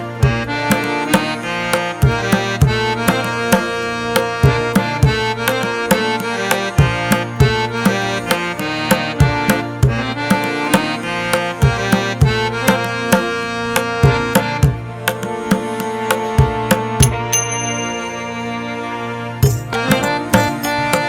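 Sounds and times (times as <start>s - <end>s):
hand-drum beat: 0.2s - 17.8s, 19.4s - 21.0s
held melodic instrument tones: 0.3s - 21.0s.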